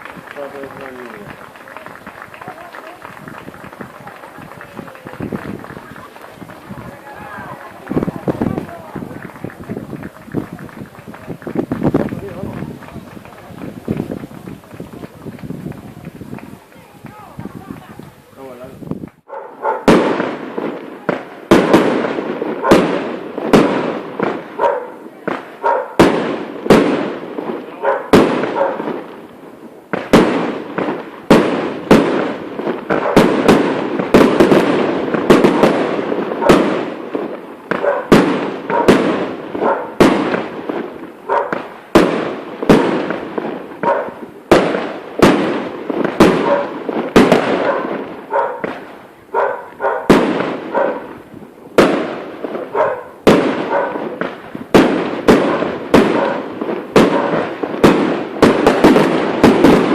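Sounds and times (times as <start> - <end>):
continuous crackling rush: 0.0 - 59.9
rockets banging: 0.0 - 59.9.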